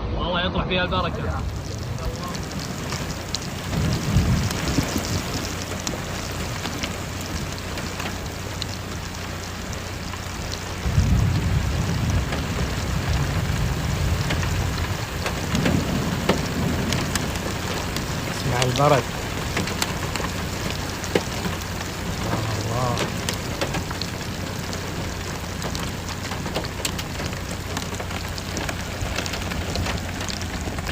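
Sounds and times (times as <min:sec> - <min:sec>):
heavy rain pouring: 0:00.0 - 0:30.9
thunder rumbling: 0:00.0 - 0:30.9.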